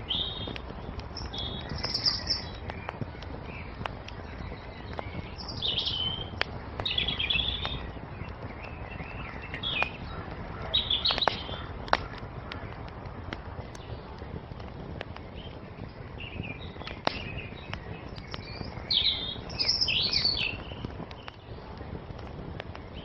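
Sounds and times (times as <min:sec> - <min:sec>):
songbirds chirping and singing: 0:00.0 - 0:23.0
wood fire crackling: 0:00.0 - 0:23.0.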